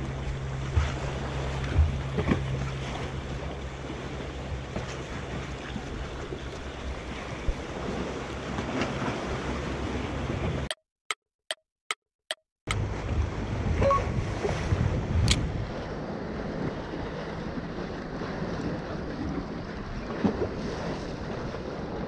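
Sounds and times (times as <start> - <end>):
wash of waves: 0.0 - 10.7, 12.7 - 22.0
boat engine humming: 0.0 - 10.8, 12.7 - 22.0.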